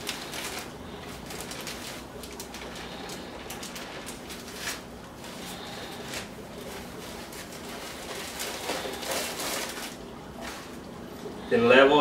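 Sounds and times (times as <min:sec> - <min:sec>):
plastic zip bag crinkling: 0:00.0 - 0:11.0.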